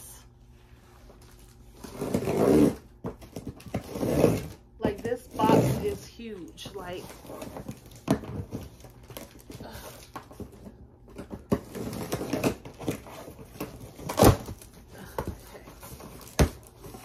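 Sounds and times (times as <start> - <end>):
cardboard scraping and rustling: 0.7 - 17.0.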